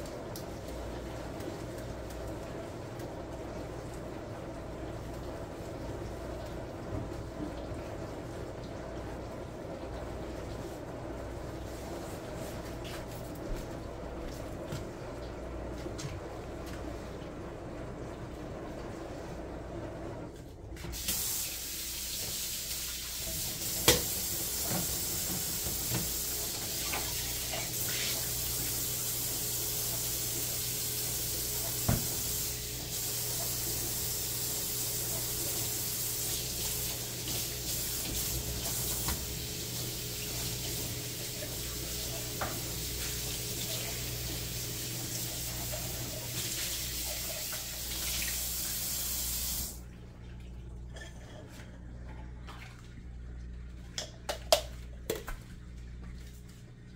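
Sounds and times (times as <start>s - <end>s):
water running from tap: 0.0s - 17.1s, 20.9s - 50.8s.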